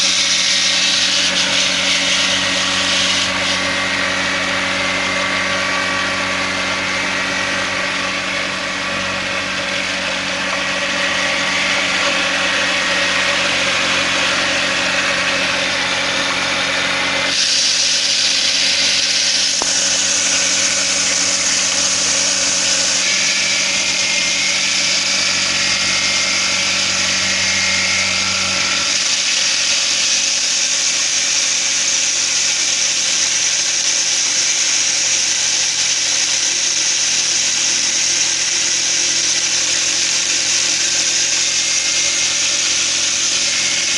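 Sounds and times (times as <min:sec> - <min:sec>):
grinder motor hum and rattling whirr: 0:00.0 - 0:43.9
harsh hiss: 0:00.0 - 0:43.9.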